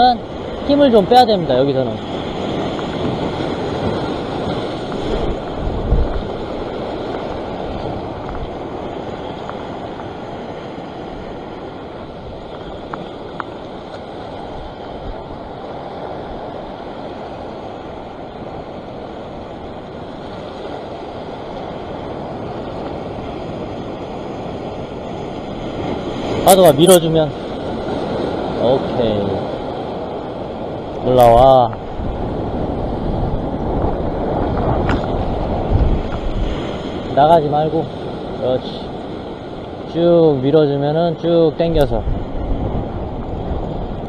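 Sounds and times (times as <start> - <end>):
surf washing over rocks: 0.0 - 44.0
wind rumbling on microphone: 0.0 - 44.0.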